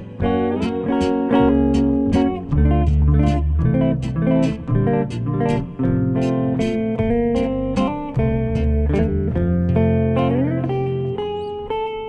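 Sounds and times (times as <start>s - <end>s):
double bass notes: 0.0s - 11.4s
hollow-body electric guitar: 0.0s - 12.0s.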